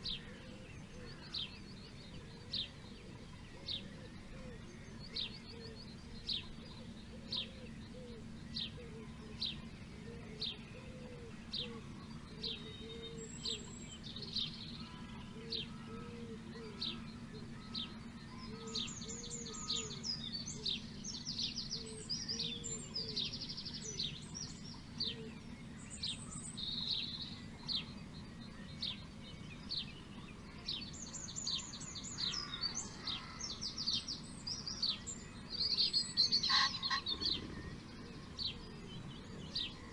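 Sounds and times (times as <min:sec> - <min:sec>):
birds trilling song: 0:00.0 - 0:39.9
low background hum: 0:00.0 - 0:39.9
low bird call: 0:00.0 - 0:39.9.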